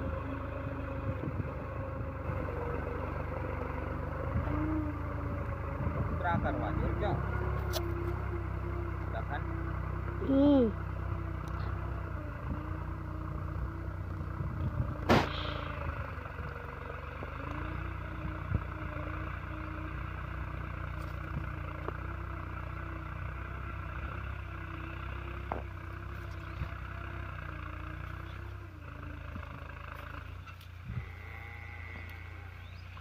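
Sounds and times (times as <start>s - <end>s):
tractor engine under load: 0.0s - 33.0s.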